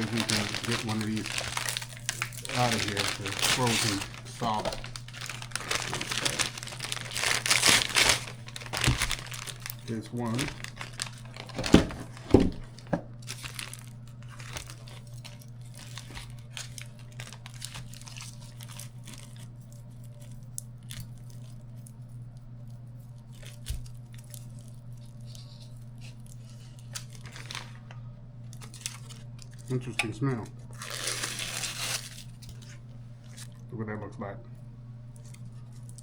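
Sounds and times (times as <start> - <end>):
plastic packaging crinkling and tearing: 0.0 - 21.9, 22.6 - 33.6
steady low hum: 0.0 - 36.0.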